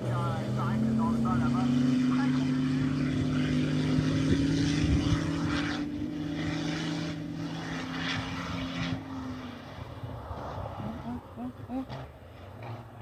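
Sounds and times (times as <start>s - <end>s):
distant car engine drone: 0.0s - 13.0s.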